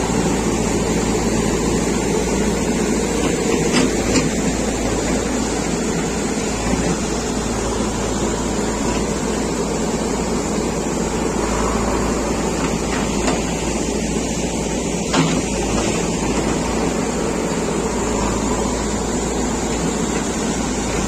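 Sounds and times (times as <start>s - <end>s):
backhoe diesel engine running: 0.0s - 21.0s.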